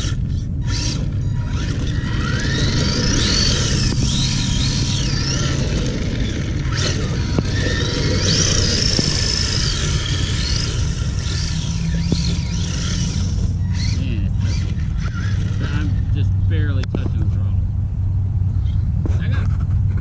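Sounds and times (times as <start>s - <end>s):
electric motor whining: 0.0s - 17.4s
low rumble: 0.0s - 20.0s.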